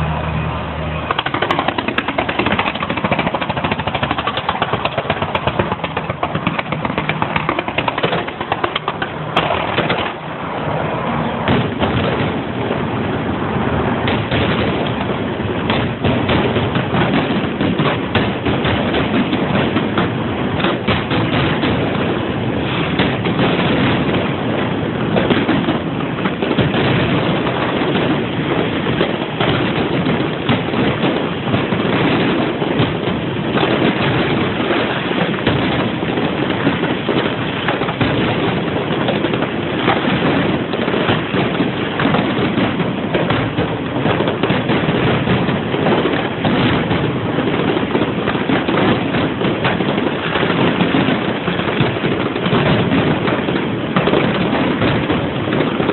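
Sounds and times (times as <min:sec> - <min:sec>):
fireworks crackling and popping: 0:00.8 - 0:55.9.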